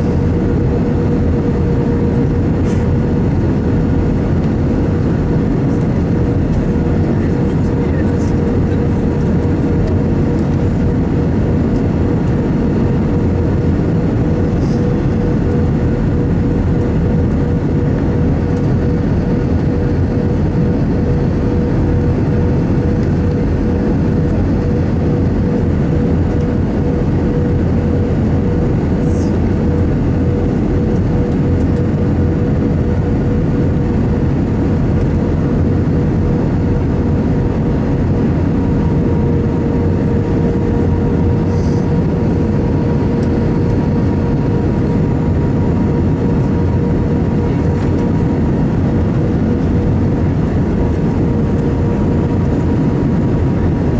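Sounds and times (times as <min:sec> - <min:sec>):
jet engines and rushing air: 0:00.0 - 0:53.9
steady droning tone: 0:00.0 - 0:53.9.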